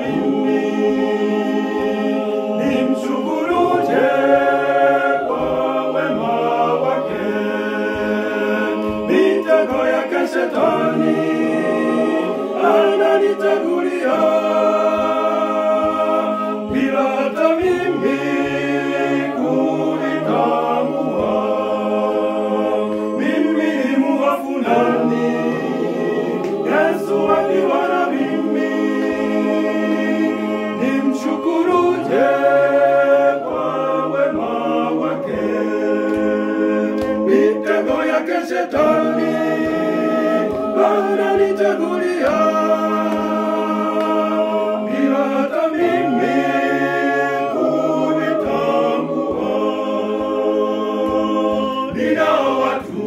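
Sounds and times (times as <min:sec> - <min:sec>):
choir of men singing: 0:00.0 - 0:53.0.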